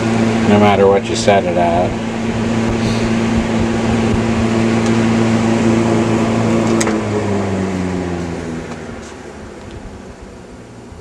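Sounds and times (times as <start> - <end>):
electric fan motor humming: 0.0 - 11.0.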